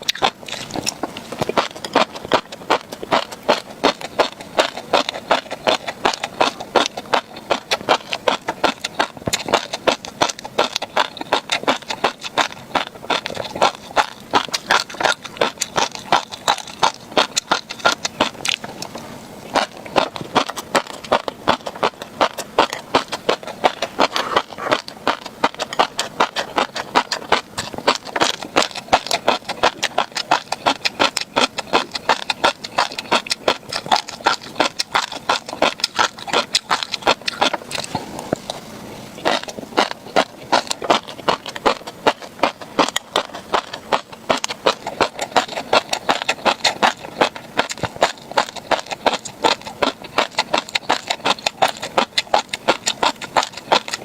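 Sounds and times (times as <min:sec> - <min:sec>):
chewing crunchy fish roe: 0:00.0 - 0:54.0.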